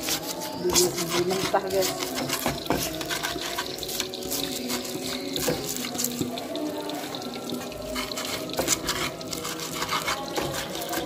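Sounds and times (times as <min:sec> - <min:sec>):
pestle grinding in mortar: 0:00.0 - 0:06.4, 0:08.0 - 0:11.0.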